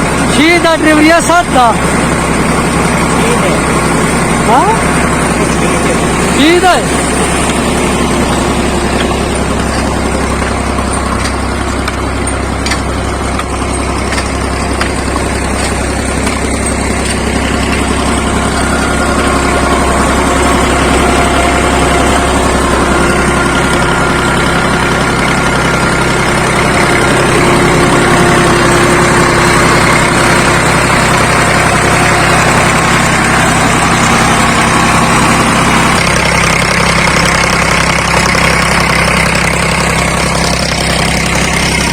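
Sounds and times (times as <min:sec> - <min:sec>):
diesel tractor engine running: 0:00.0 - 0:41.9.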